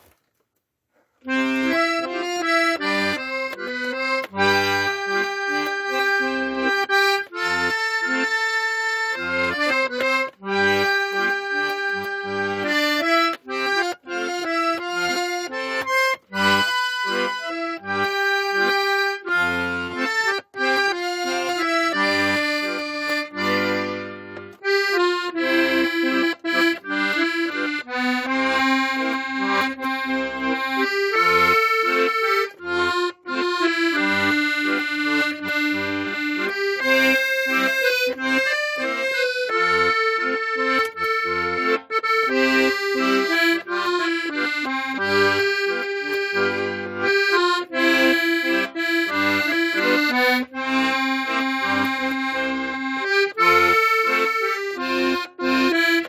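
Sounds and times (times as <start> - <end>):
solo accordion melody: 1.2 - 56.0.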